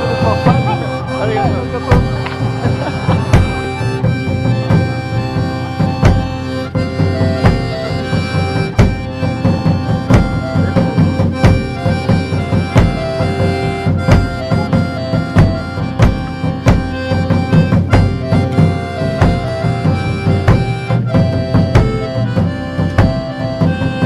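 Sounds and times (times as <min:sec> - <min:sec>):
held melody notes: 0:00.0 - 0:24.0
steady drum beat: 0:00.0 - 0:24.0.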